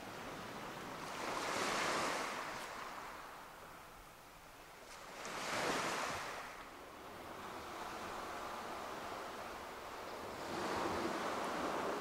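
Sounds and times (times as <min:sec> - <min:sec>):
waves washing onto shore: 0:00.1 - 0:04.0, 0:04.8 - 0:12.0.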